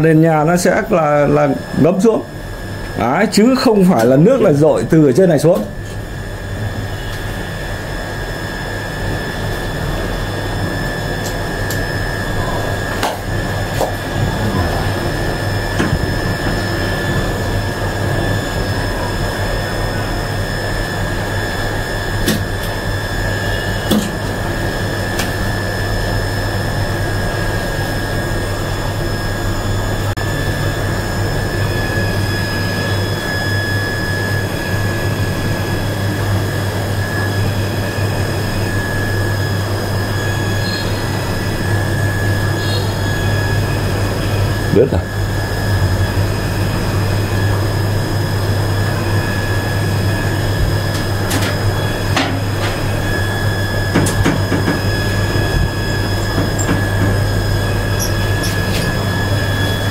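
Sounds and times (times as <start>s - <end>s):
electrical hum: 0.0s - 59.9s
thin high whine: 0.0s - 59.9s.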